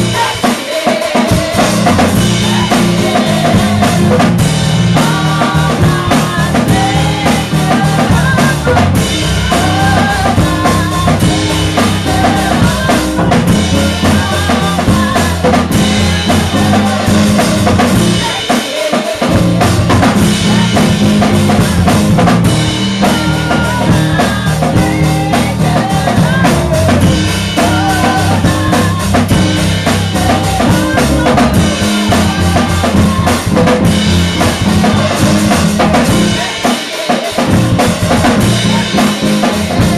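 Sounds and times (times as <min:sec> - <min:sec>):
band with steady bass notes: 0:00.0 - 0:00.5, 0:01.2 - 0:36.7, 0:37.3 - 0:39.9
drum kit: 0:00.0 - 0:39.9
woman singing gospel: 0:00.0 - 0:39.9.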